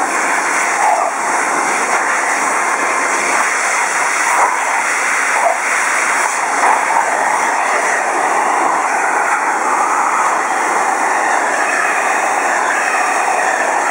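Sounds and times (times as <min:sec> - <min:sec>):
hair dryer running: 0:00.0 - 0:13.9.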